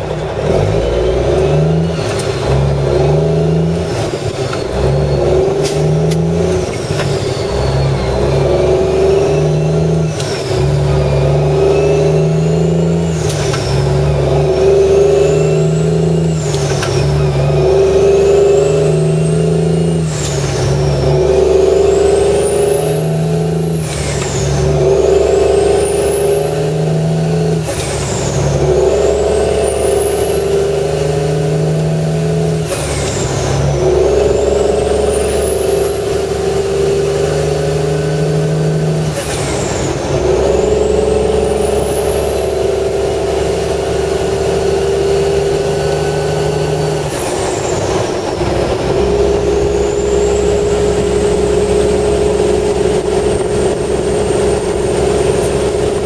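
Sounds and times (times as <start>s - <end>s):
diesel truck engine accelerating: 0.0s - 56.0s.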